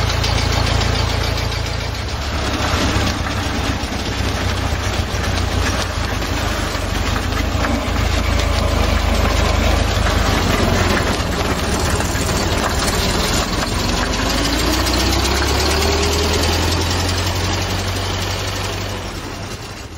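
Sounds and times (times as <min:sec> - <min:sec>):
old car engine running: 0:00.0 - 0:19.9
rising whine: 0:00.0 - 0:19.9.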